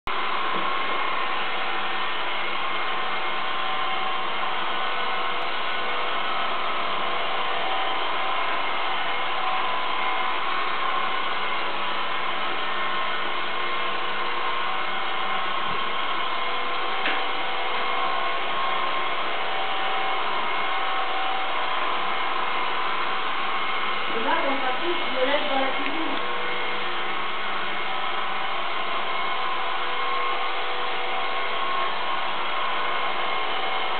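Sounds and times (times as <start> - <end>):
robot vacuum cleaner whirring: 0.1 - 33.9.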